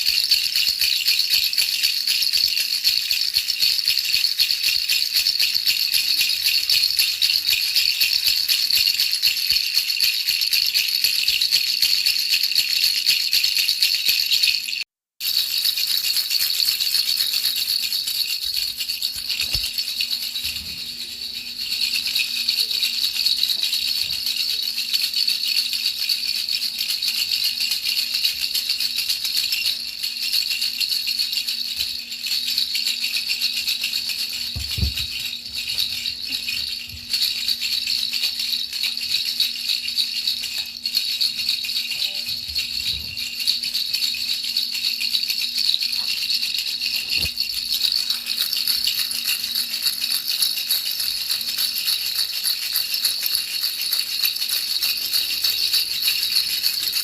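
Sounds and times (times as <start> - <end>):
baby rattle shaken fast: 0.0 - 57.0.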